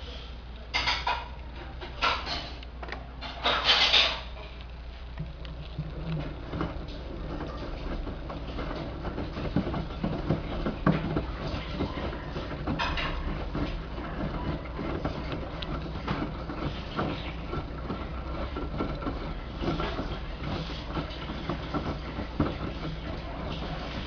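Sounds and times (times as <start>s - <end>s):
washing machine low hum: 0.0s - 24.0s
washing machine tumbling towels: 0.0s - 24.0s.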